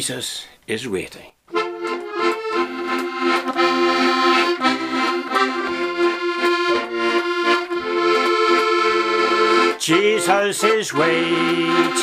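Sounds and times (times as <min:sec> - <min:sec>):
piano accordion playing a hymn: 0:01.5 - 0:12.0.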